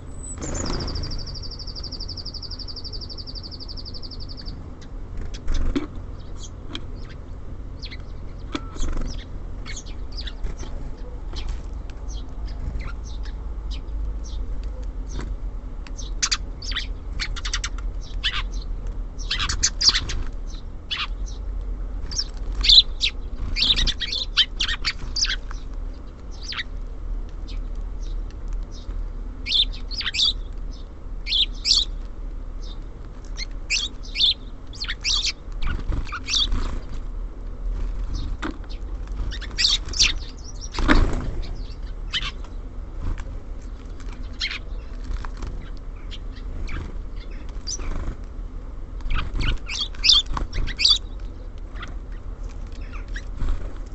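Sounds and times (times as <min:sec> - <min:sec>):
small songbirds chirping: 0:00.0 - 0:53.9
steady low rumble: 0:00.0 - 0:53.9.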